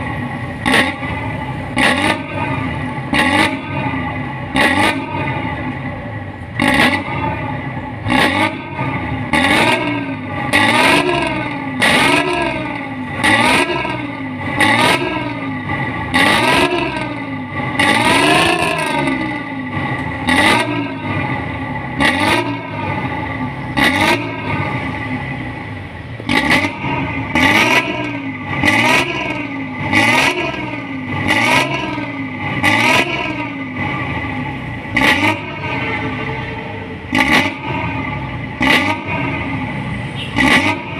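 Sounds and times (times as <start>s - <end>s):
bus diesel engine revving: 0.0s - 40.9s.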